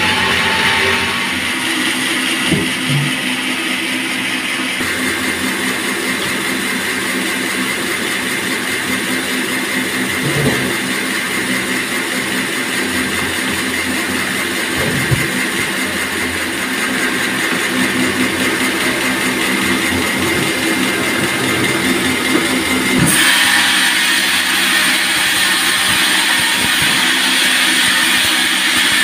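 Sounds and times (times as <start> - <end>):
sawmill machine drone: 0.0 - 29.0.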